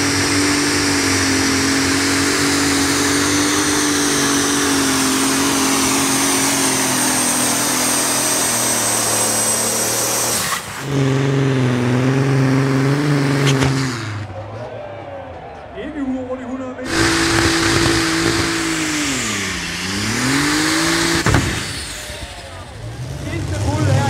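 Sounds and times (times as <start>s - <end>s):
heavy tractor engine with whine: 0.0s - 15.6s, 16.8s - 24.0s
lower wavering tractor engine: 0.0s - 15.8s, 16.5s - 24.0s.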